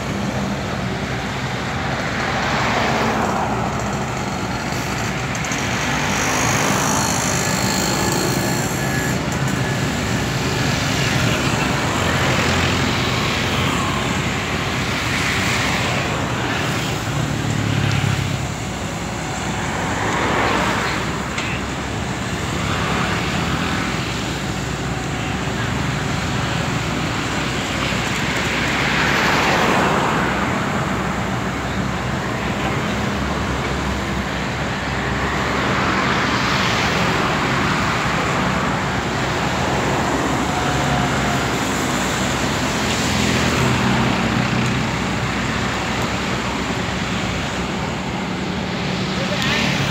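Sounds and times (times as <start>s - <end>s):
excavator diesel engine running: 0.0s - 49.9s
traffic passing close by: 0.0s - 49.9s.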